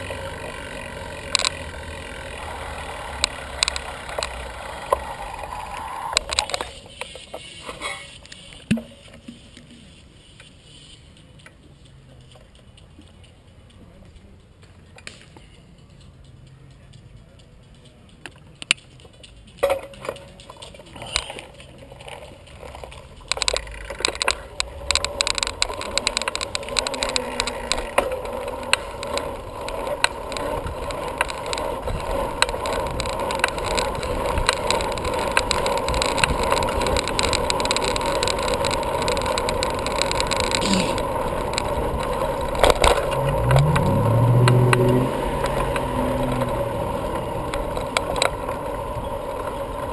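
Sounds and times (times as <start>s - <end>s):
bicycle rattling and clicking: 0.0s - 49.9s.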